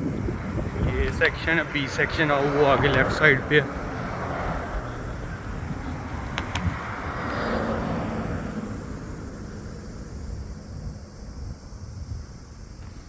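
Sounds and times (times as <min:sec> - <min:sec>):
motor vehicle passing by: 0:00.0 - 0:12.1.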